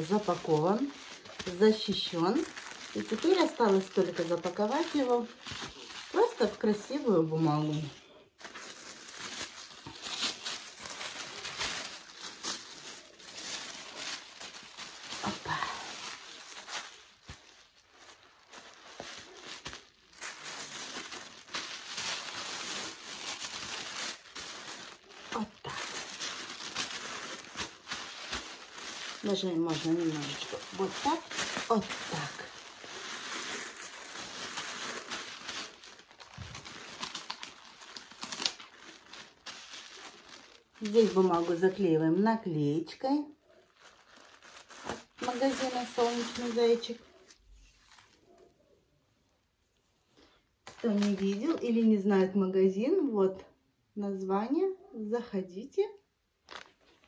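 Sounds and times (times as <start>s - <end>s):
tissue paper crinkling: 0.0s - 48.6s, 49.7s - 51.8s, 56.4s - 57.0s.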